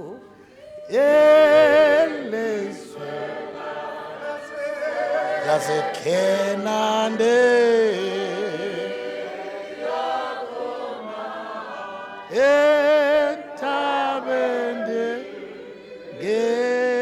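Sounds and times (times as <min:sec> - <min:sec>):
voices singing a hymn unaccompanied: 0:00.0 - 0:17.0.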